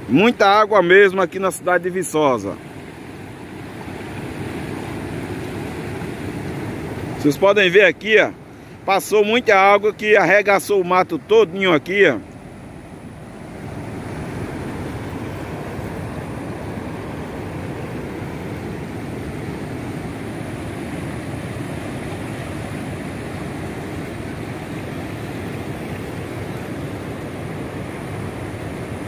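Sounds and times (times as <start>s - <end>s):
flooded river rushing: 0.0s - 29.0s.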